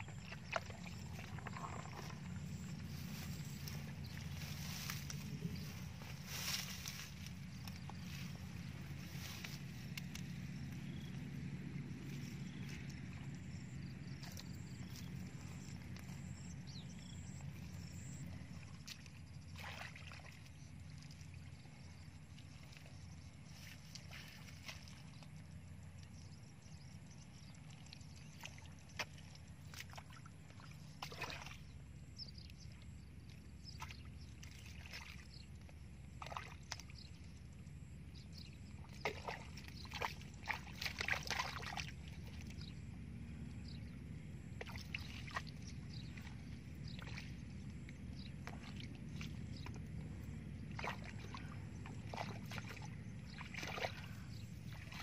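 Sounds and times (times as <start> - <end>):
low steady rumble: 0.0 - 55.0
water sloshing and splashing: 0.0 - 55.0.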